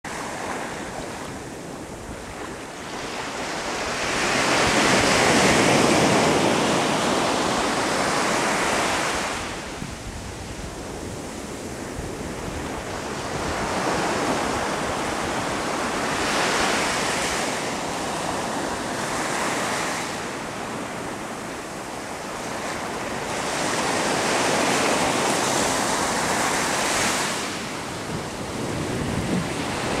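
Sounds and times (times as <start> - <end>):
waves breaking on sandy beach: 0.1 - 30.0.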